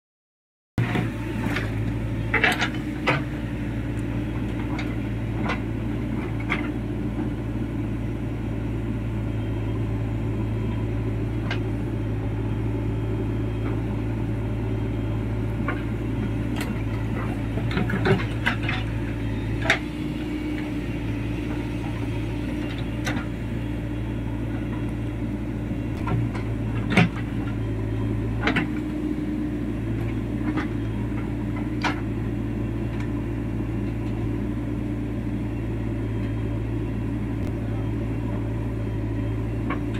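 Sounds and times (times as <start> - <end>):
diesel engine running: 0.8 - 39.9.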